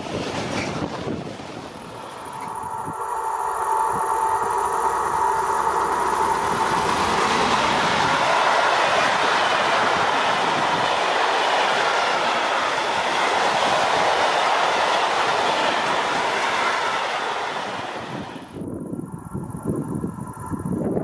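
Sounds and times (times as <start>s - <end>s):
steel wheels on rails: 0.0s - 21.0s.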